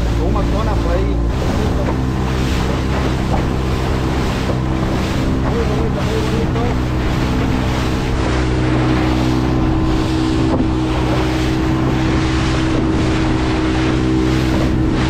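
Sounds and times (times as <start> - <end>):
motorboat engine running: 0.0 - 15.0
wind on microphone: 0.0 - 15.0.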